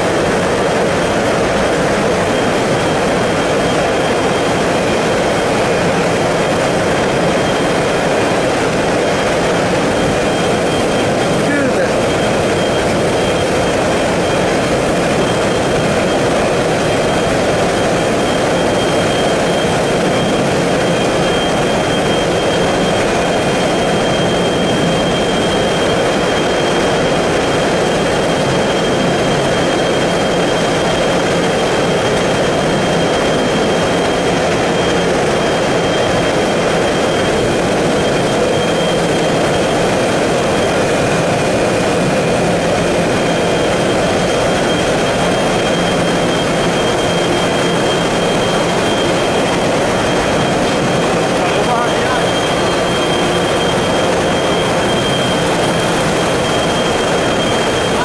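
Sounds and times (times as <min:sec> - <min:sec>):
high machine whine: 0:00.0 - 0:58.0
production line machinery running: 0:00.0 - 0:58.0.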